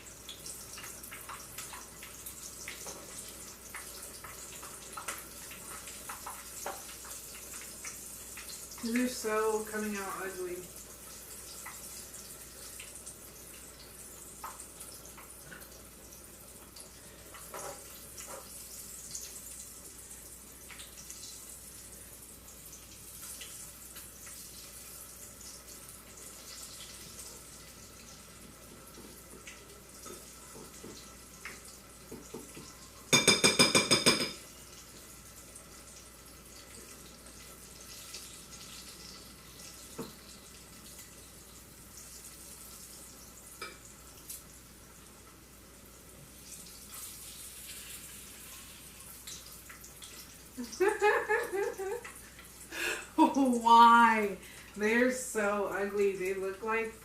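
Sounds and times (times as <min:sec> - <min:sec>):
oil sizzling and popping: 0:00.0 - 0:57.0.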